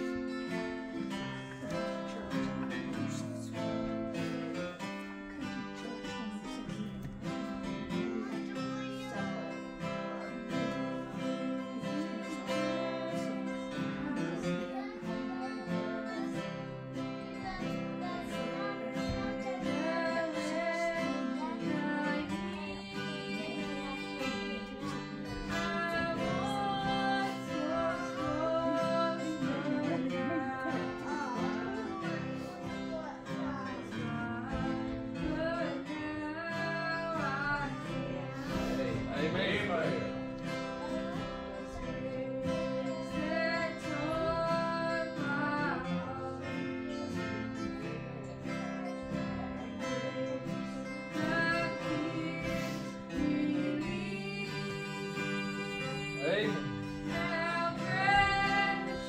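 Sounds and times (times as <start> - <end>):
acoustic guitar strumming: 0.0 - 59.0
person singing worship song: 0.0 - 59.0.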